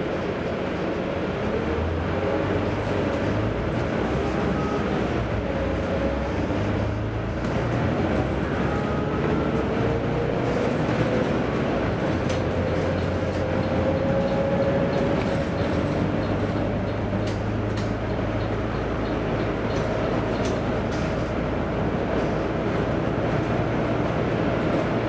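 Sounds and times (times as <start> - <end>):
bus diesel engine humming: 0.0 - 25.0.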